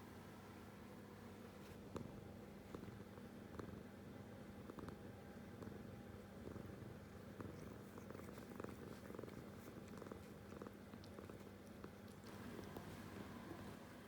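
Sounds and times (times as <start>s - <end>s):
cat purring: 1.4s - 14.0s.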